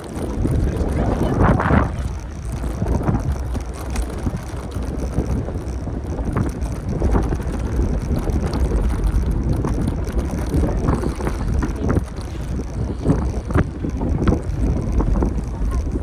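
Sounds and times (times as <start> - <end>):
faint street sounds: 0.0 - 16.0
wind buffeting microphone: 0.0 - 16.0.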